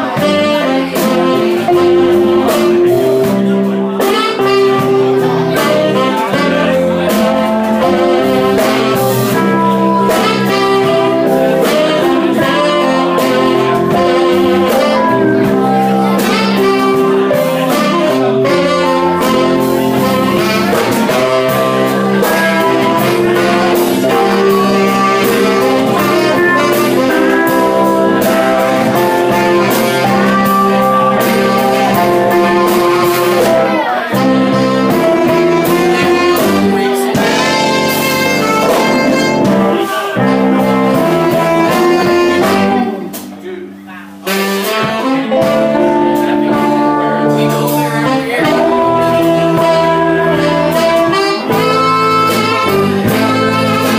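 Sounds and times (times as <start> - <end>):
drums: 0.0 - 53.9
electric guitars: 0.0 - 53.9
keyboard: 0.0 - 53.9
saxophone: 0.0 - 53.9.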